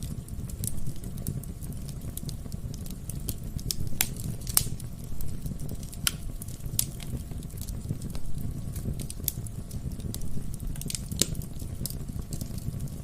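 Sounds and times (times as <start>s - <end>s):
low rumble of flame: 0.0s - 13.0s
wood fire crackling: 0.0s - 13.0s.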